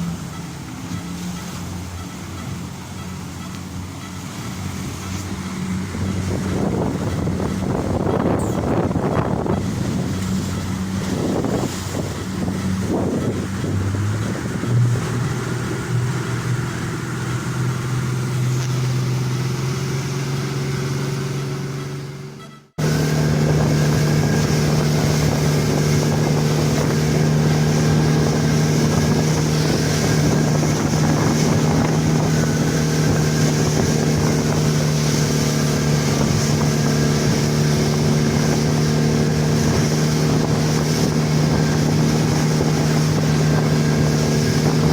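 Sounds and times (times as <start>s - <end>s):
speedboat engine running: 0.0s - 44.9s
wind and water rushing: 0.0s - 44.9s.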